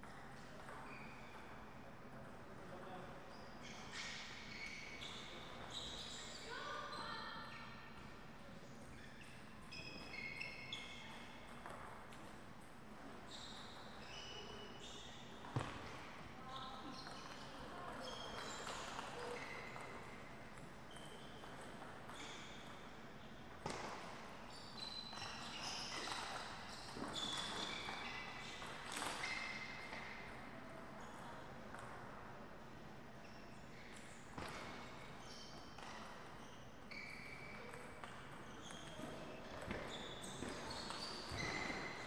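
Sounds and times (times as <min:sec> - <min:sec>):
sports shoes squeaking: 0:00.0 - 0:01.6, 0:02.8 - 0:07.7, 0:08.5 - 0:12.3, 0:12.9 - 0:32.0, 0:33.2 - 0:42.0.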